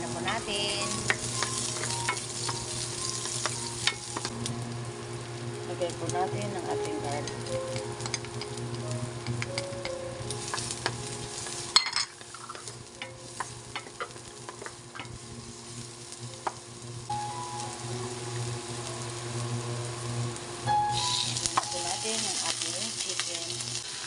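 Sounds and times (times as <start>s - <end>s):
garlic and onion sizzling in oil: 0.0s - 24.0s.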